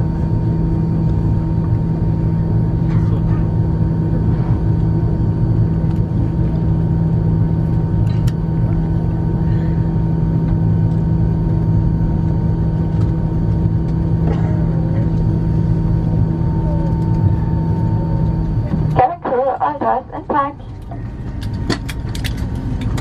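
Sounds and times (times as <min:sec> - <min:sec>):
aircraft cabin drone: 0:00.0 - 0:23.0.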